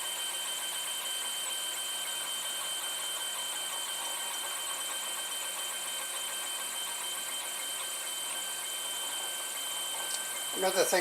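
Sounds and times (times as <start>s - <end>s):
printer whirring: 0.0s - 11.0s
thin high whine: 0.0s - 11.0s.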